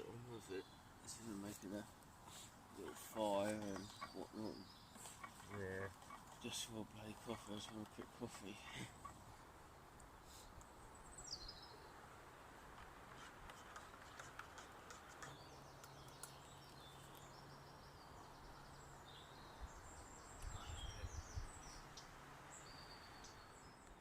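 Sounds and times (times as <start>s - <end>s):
birds chirping and singing: 0.0s - 9.4s, 13.6s - 24.0s.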